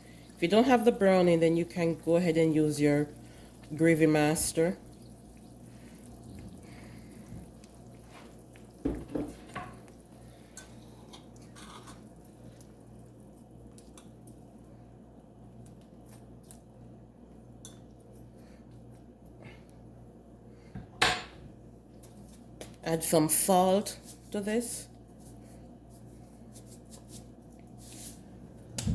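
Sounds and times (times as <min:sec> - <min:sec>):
steady low hum: 0:00.0 - 0:23.3.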